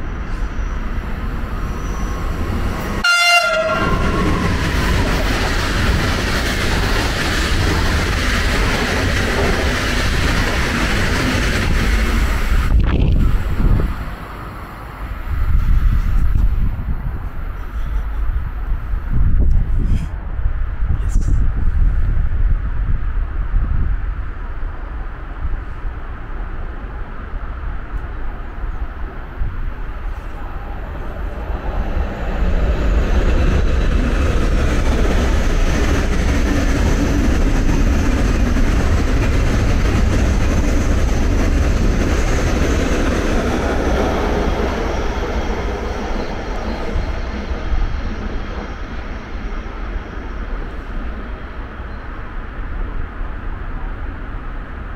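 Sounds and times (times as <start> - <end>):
train running past: 0.0 - 54.9.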